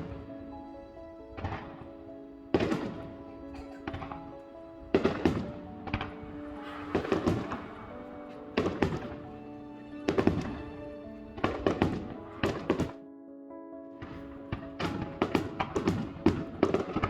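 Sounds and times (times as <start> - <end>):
fireworks bangs: 0.0 - 13.0, 14.0 - 17.0
background music with held notes: 0.0 - 17.0.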